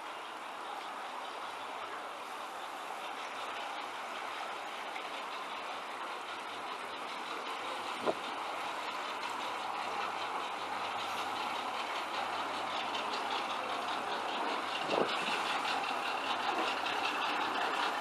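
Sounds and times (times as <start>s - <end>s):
boat motor: 0.0s - 18.0s.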